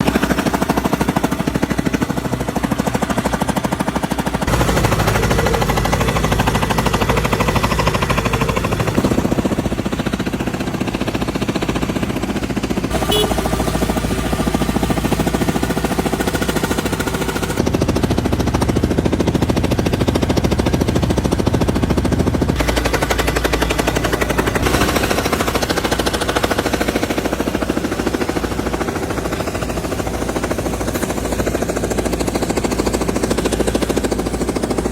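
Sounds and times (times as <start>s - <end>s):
engine noise: 0.0s - 34.9s
machinery hammering on pavement: 0.0s - 34.9s.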